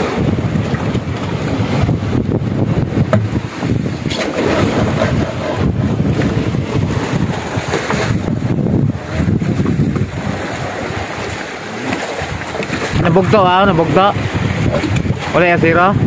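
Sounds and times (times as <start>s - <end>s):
sea washing around boat: 0.0s - 16.0s
wind on microphone: 0.0s - 16.0s.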